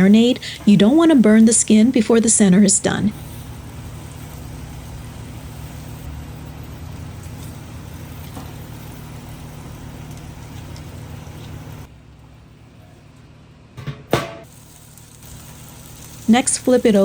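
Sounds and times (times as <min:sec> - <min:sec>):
gas grill burners rumbling: 0:00.0 - 0:17.0.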